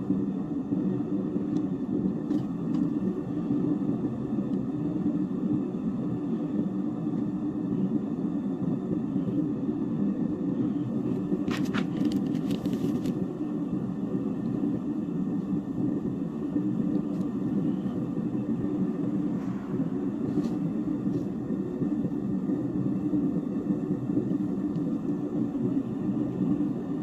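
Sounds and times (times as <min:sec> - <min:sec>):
gas flame roaring: 0:00.0 - 0:27.0.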